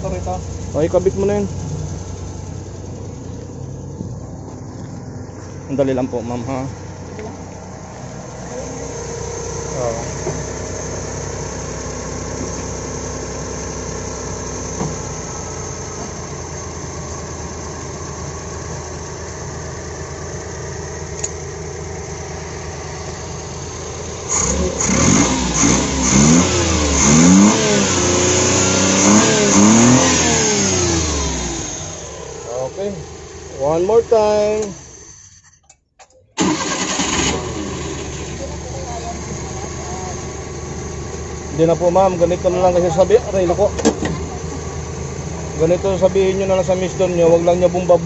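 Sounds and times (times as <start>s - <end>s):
petrol engine idling and revving: 0.0s - 48.0s.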